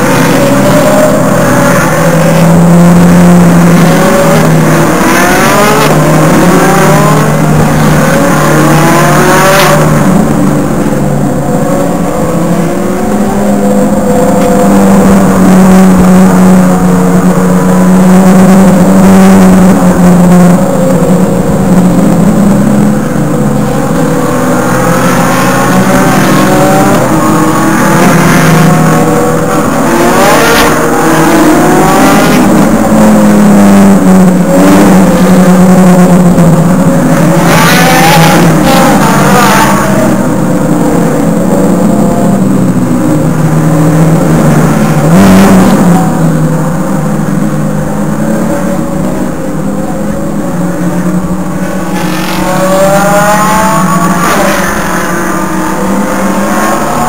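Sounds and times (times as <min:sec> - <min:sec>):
race car engines droning: 0:00.0 - 0:57.0
race cars revving past: 0:00.0 - 0:57.0.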